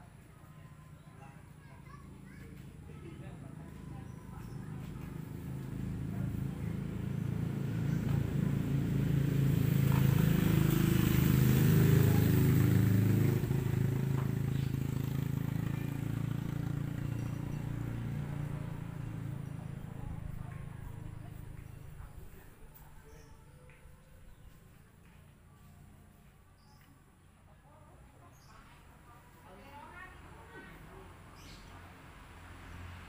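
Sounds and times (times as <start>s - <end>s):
motor vehicle passing by: 0.0s - 33.0s.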